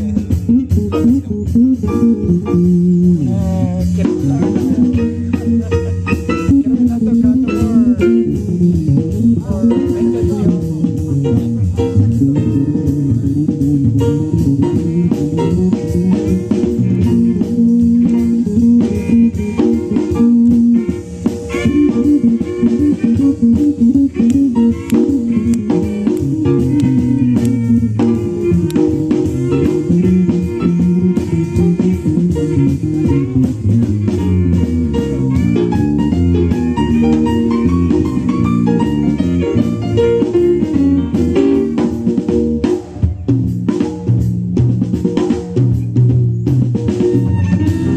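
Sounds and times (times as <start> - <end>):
jazz combo playing swing blues: 0.0 - 47.9
plucked bass notes: 0.0 - 47.9.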